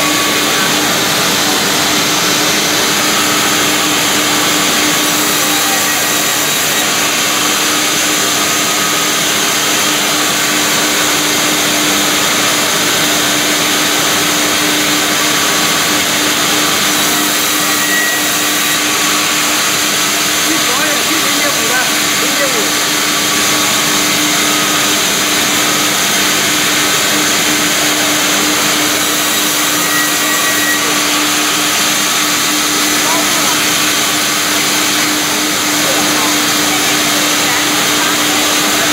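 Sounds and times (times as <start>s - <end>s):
band saw whirring hum: 0.0s - 38.9s.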